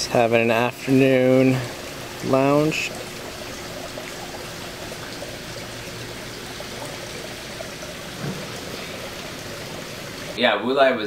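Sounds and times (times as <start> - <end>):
water running and pouring: 0.0 - 10.4
faint steady hum: 0.0 - 10.7.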